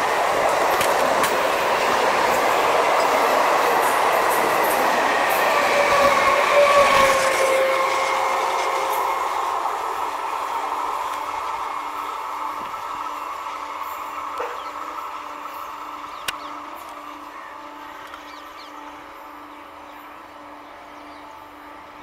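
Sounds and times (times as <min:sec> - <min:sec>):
train wheels rumbling: 0:00.0 - 0:22.0
train whine: 0:00.0 - 0:22.0.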